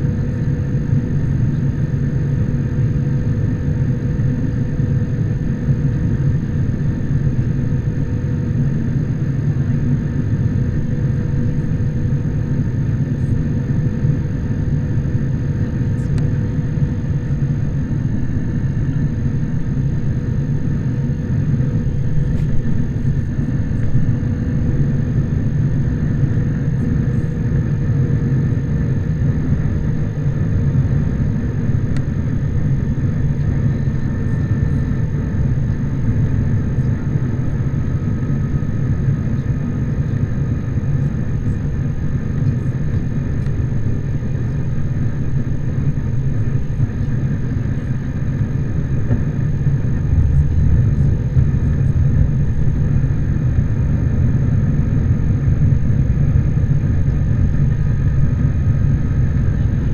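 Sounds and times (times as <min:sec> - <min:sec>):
faint steady hum: 0:00.0 - 0:59.9
jet engines and airflow rumble: 0:00.0 - 0:59.9.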